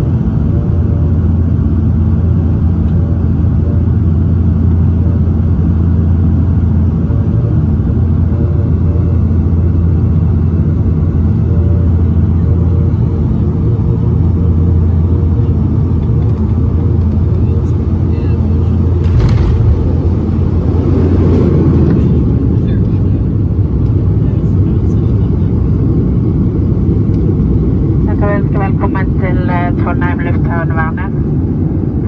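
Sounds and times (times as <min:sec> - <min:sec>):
turboprop cabin drone: 0:00.0 - 0:32.0.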